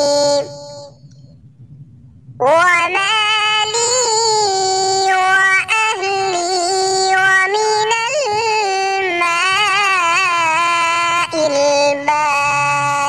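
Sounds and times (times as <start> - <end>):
high-pitched voice chanting: 0.0 - 1.0, 2.4 - 13.0.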